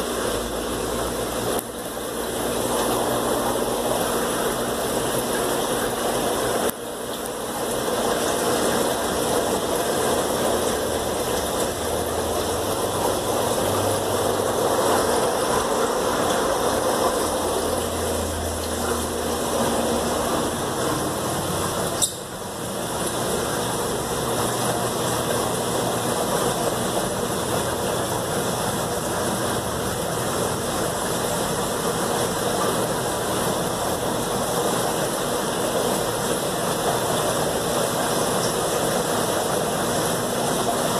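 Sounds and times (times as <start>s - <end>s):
aquarium pumps humming and hissing: 0.0s - 40.9s.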